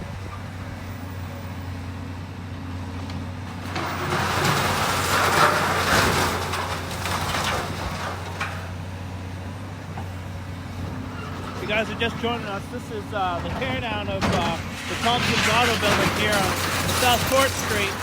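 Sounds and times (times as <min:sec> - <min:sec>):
demolition equipment engine hum: 0:00.0 - 0:18.0.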